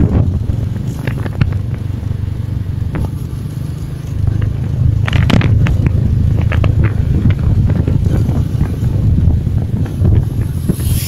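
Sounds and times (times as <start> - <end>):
motorcycle engine rumble: 0.0 - 11.0
wind on microphone: 0.0 - 11.0.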